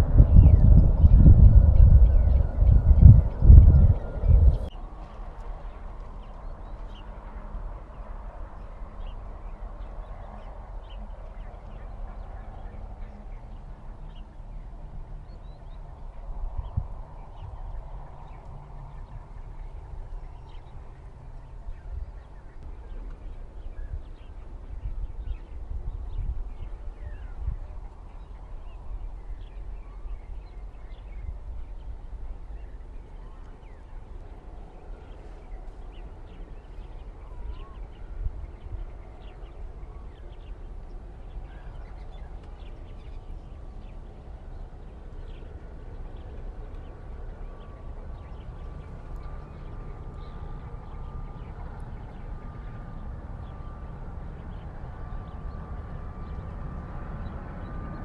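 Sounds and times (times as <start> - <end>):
low gusting rumble: 0.0 - 58.0.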